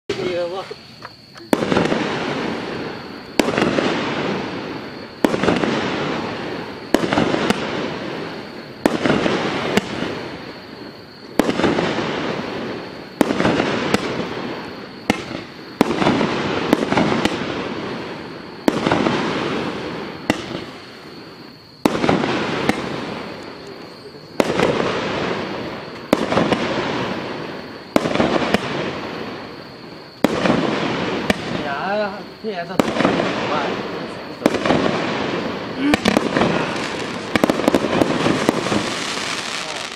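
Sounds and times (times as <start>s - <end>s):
firework bangs with hiss: 0.1s - 39.9s.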